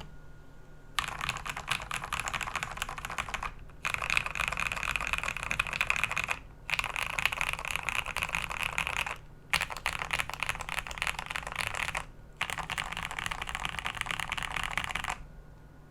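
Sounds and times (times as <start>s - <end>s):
fast typing on mechanical keyboard: 1.0s - 15.2s.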